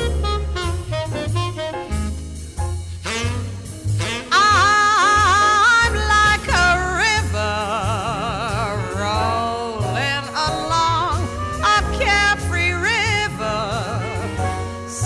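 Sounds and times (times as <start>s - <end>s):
swing jazz band music: 0.0s - 15.0s.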